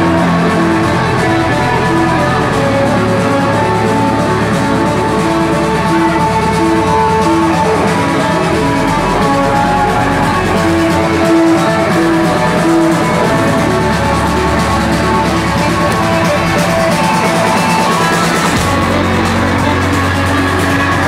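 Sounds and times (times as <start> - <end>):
loud live rock band: 0.0 - 21.0.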